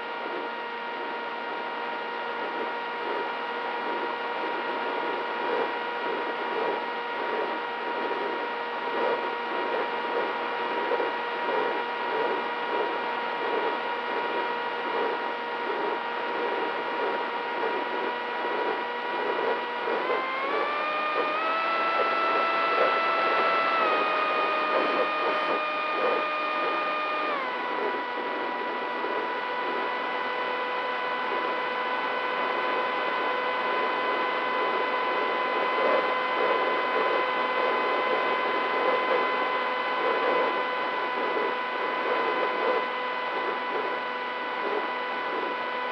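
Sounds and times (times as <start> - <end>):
electric motor propeller whine: 0.0 - 45.9.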